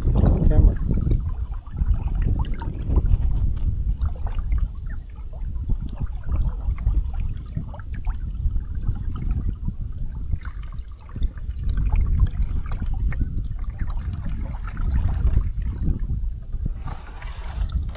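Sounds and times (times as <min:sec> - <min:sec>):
water splashing against kayak hull: 0:00.0 - 0:17.9
wind rumble on microphone: 0:00.0 - 0:17.9.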